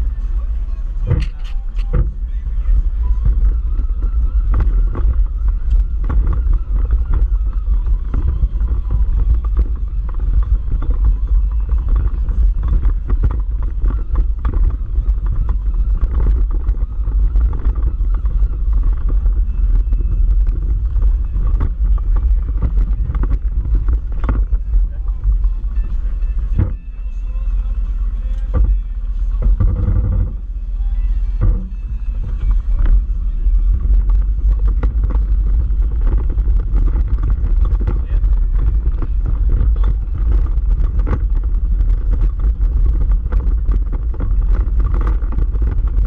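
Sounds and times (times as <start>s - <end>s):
off-road vehicle rumbling: 0.0s - 46.0s
knocks and rattles over rocks: 1.0s - 27.5s, 28.3s - 30.6s, 31.4s - 46.0s.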